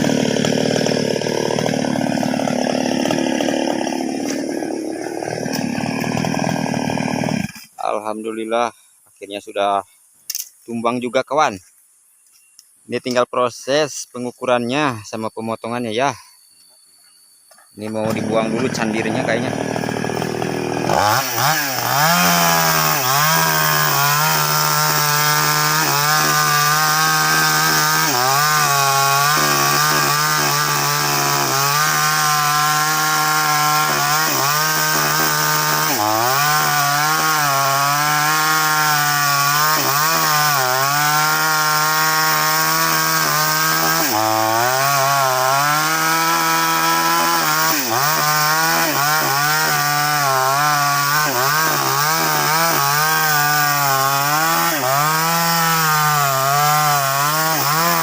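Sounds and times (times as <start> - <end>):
chainsaw cutting wood: 0.0 - 7.8, 16.7 - 58.0.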